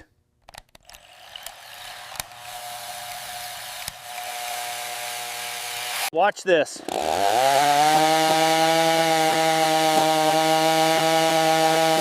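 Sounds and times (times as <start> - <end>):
mini chainsaw whining: 0.8 - 6.1, 6.7 - 12.0.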